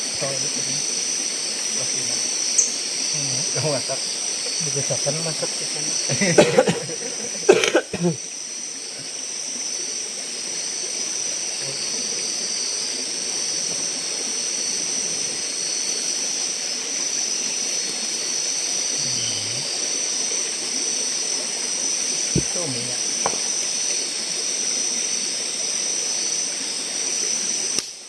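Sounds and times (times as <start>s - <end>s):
even hiss: 0.0s - 28.0s
forest insects droning: 0.0s - 28.0s.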